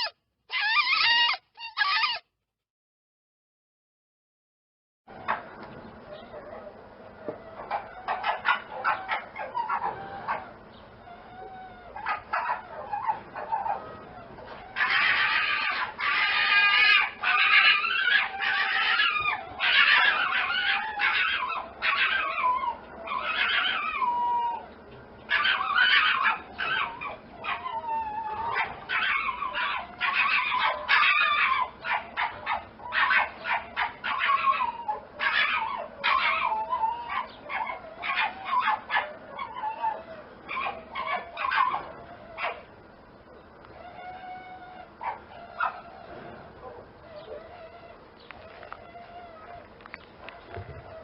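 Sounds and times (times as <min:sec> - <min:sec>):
dog yipping and whining: 0:00.0 - 0:02.3, 0:06.1 - 0:42.7, 0:43.7 - 0:51.0.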